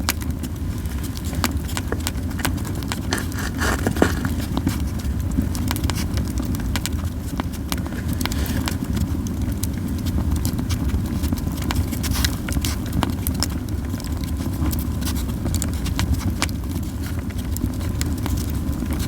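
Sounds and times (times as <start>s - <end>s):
campfire crackling and popping: 0.0s - 19.0s
fire low rumble: 0.0s - 19.0s.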